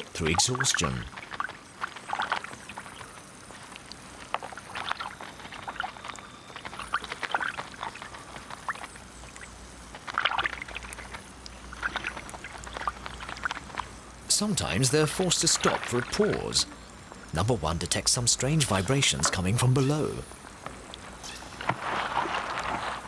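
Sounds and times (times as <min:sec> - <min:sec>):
small splashes and clicks: 0:00.0 - 0:17.3, 0:17.9 - 0:22.8
water trickling and gurgling: 0:00.0 - 0:23.0.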